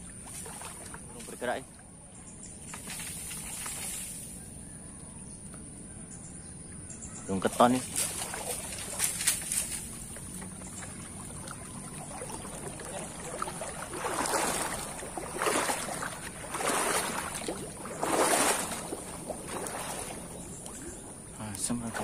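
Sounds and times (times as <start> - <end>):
footsteps splashing through stream: 0.0 - 1.6, 2.7 - 4.3, 7.5 - 22.0.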